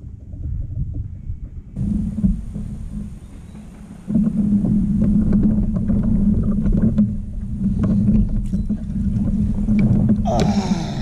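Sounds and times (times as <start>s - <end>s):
hull clicks and knocks: 0.3s - 10.7s
pedal drive humming: 1.8s - 11.0s.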